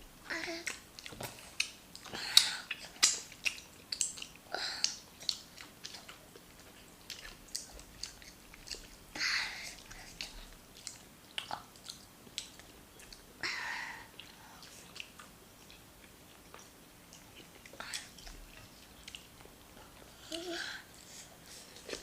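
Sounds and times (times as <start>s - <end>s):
person chewing food: 0.6s - 13.4s, 14.1s - 20.4s, 21.0s - 22.0s.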